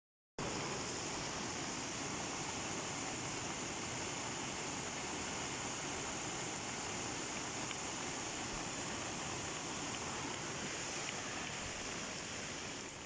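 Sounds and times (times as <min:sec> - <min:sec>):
running water rushing: 0:00.4 - 0:13.0.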